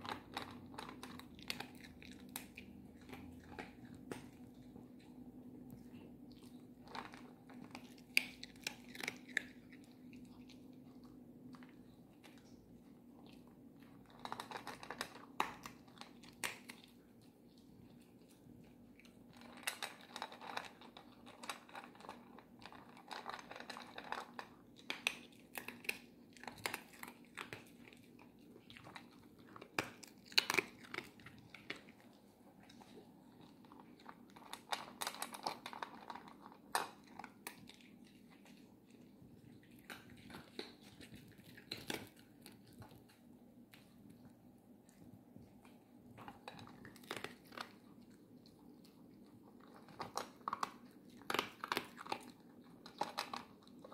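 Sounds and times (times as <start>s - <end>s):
dog crunching dry kibble: 0.0s - 53.9s.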